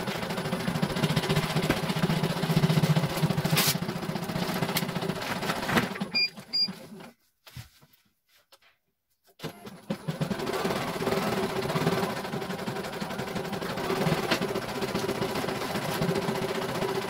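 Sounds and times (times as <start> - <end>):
embroidery machine stitching: 0.0 - 7.1, 9.4 - 17.0.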